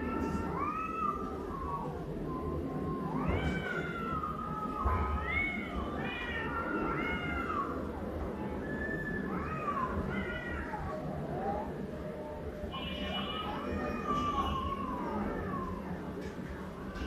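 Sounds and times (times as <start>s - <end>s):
cats yowling: 0.0s - 12.1s, 12.7s - 17.0s.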